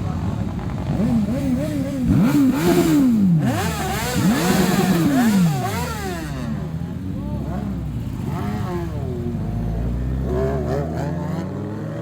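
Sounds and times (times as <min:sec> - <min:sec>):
motorcycle engine revving: 0:00.2 - 0:12.0.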